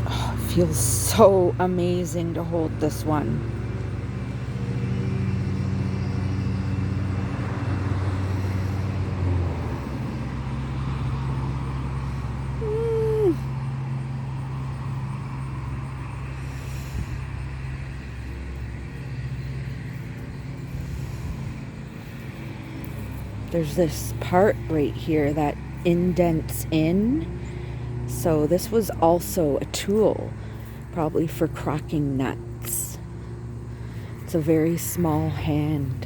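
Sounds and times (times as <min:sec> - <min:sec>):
lawn mower engine running: 0:00.0 - 0:12.7, 0:13.4 - 0:36.0.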